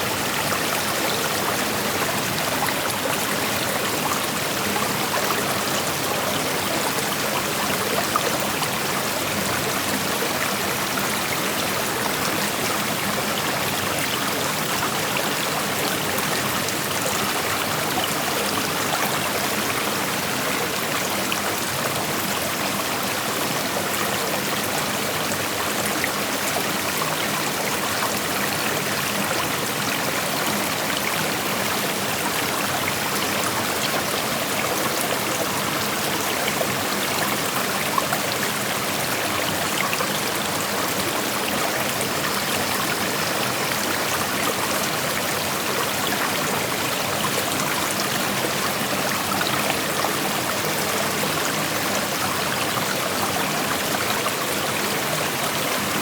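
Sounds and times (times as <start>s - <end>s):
creek water flowing over stones: 0.0s - 56.0s.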